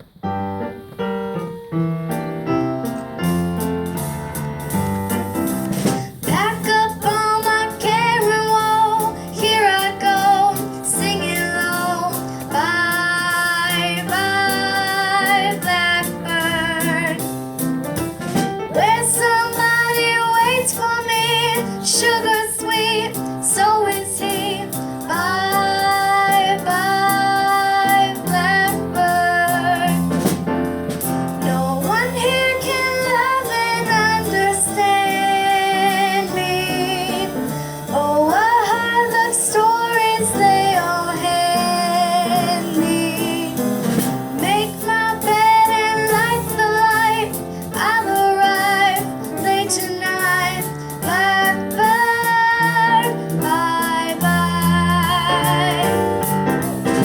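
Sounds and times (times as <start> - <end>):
instrumental accompaniment: 0.0 - 57.0
woman singing: 6.2 - 17.3, 18.7 - 30.2, 31.4 - 57.0.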